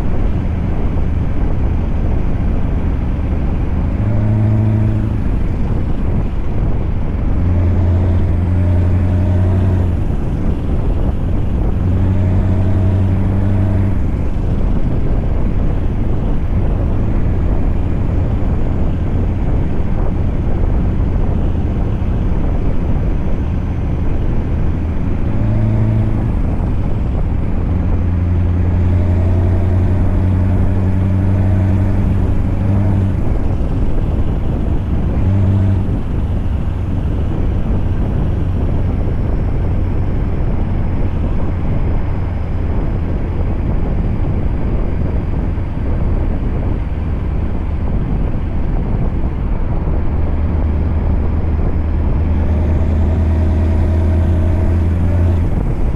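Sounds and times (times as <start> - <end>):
truck engine running: 0.0 - 55.9.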